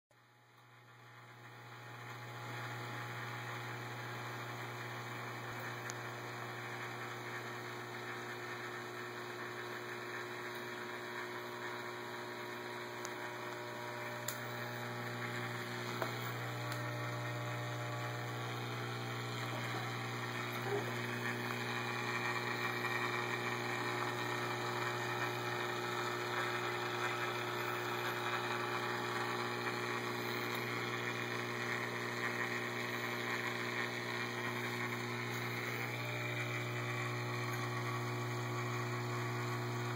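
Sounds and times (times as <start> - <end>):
aquarium pumps humming: 0.9 - 39.9.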